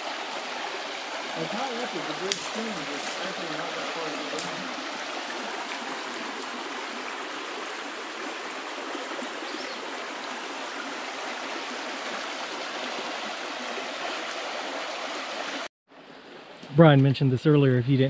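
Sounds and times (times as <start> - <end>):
creek water flowing: 0.0 - 16.7.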